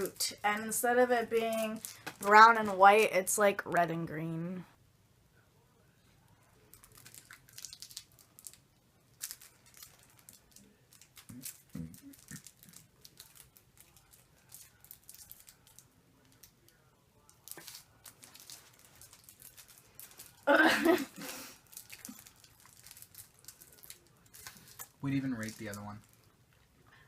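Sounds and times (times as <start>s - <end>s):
candy wrapper crinkling: 0.0s - 3.1s, 6.6s - 26.4s.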